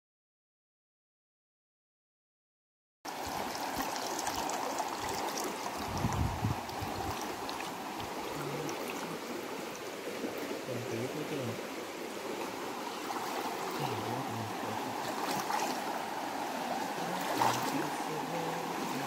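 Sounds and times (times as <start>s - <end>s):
stream water splashing: 3.1s - 19.0s.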